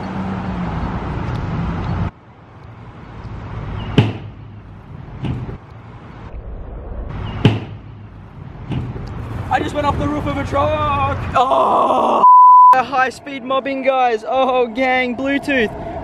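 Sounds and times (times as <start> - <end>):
steady vehicle hum: 0.0 - 16.0.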